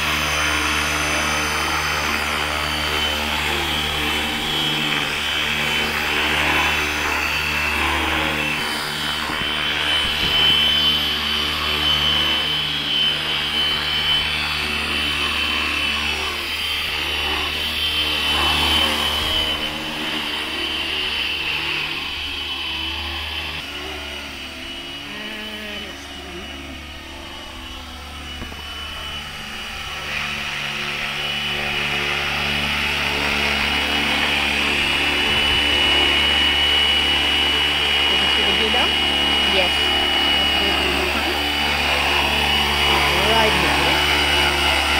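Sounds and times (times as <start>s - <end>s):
low rotor hum: 0.0s - 44.9s
rc helicopter high whine: 0.0s - 44.9s.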